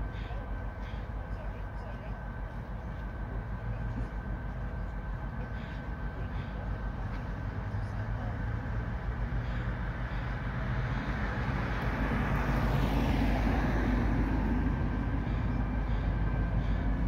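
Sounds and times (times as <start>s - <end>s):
diesel locomotive engine running: 0.0s - 17.0s.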